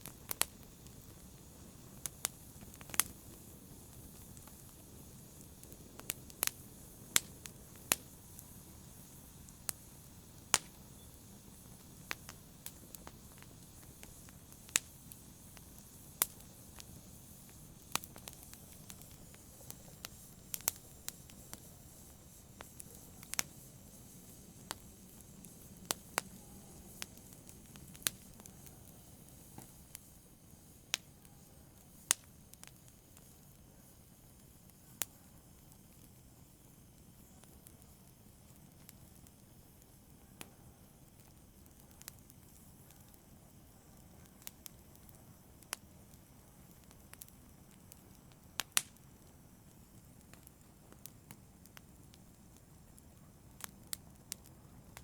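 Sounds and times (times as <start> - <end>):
faint steady hiss: 0.0 - 55.0
fire crackling and popping: 0.0 - 55.0.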